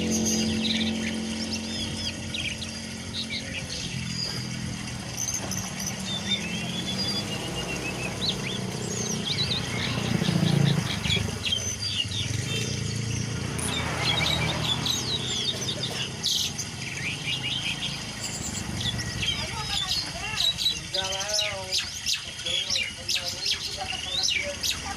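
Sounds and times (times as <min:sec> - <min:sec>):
songbirds chirping and singing: 0:00.0 - 0:24.9.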